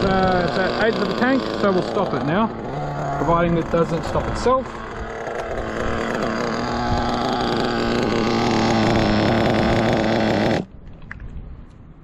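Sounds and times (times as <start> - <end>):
model engine high-pitched buzz: 0.0 - 10.7.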